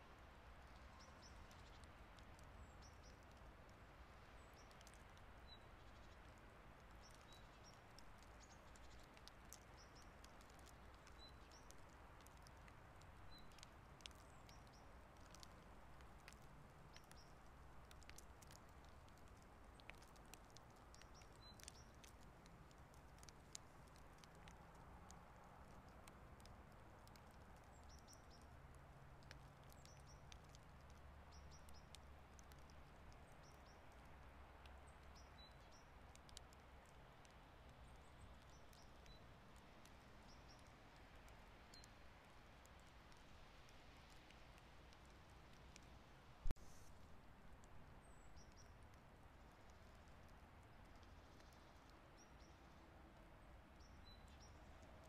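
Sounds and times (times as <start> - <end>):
falling snow ticking: 0.1 - 53.1.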